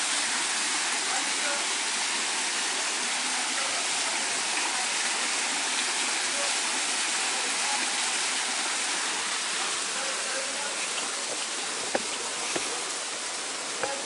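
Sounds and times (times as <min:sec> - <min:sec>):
water pouring from pipes: 0:00.0 - 0:14.0.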